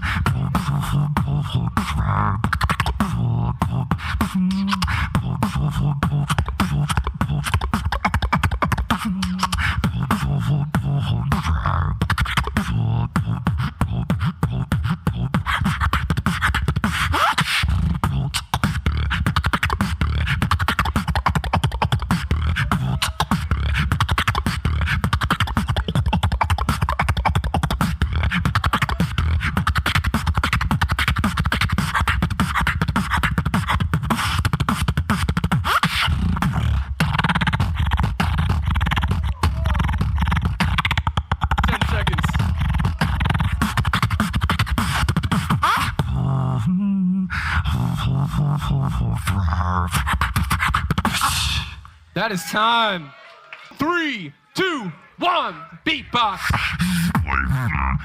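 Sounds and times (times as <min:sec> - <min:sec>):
beatboxing vocal percussion: 0:00.0 - 0:53.0, 0:53.7 - 0:58.0.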